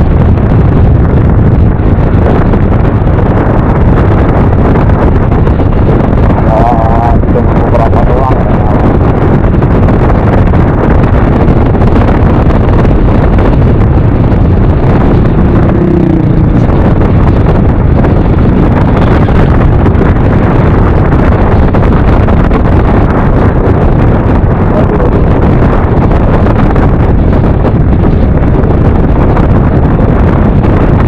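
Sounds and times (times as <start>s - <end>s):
road and engine noise: 0.0s - 31.0s
wind buffeting microphone: 0.0s - 31.0s.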